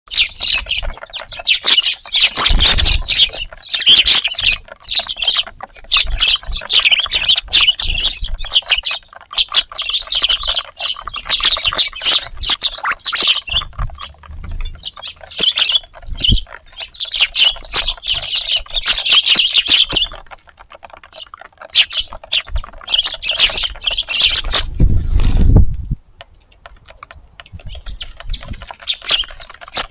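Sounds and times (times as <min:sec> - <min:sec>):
sparrows chirping: 0:00.0 - 0:25.6, 0:26.2 - 0:29.9.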